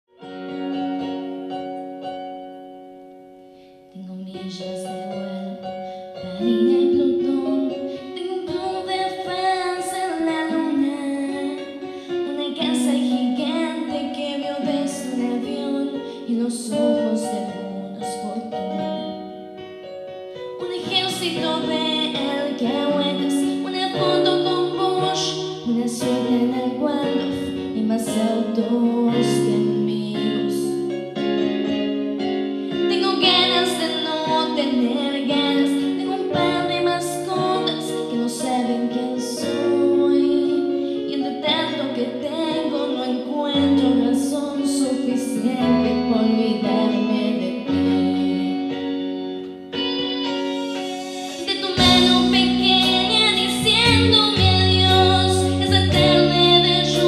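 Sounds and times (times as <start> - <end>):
instrumental accompaniment: 0.1 - 57.0
woman singing a slow ballad: 3.9 - 19.4, 20.6 - 31.1, 32.6 - 57.0.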